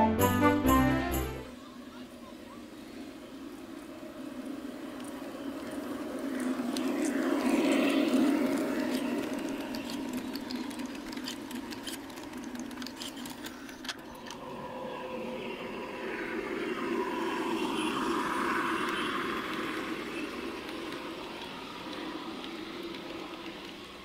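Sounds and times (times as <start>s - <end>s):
model train motor hum and rolling: 1.5s - 24.0s
wheels clicking on track: 1.5s - 24.0s.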